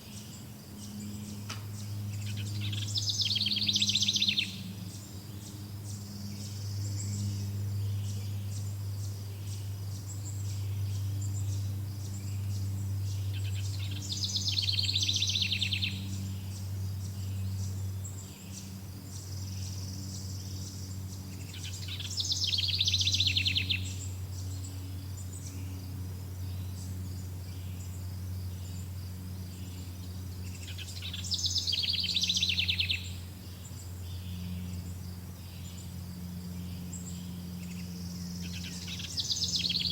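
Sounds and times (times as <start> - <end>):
bird trilled song: 0.0 - 39.9
insects chorus: 0.0 - 39.9
low steady hum: 0.0 - 39.9.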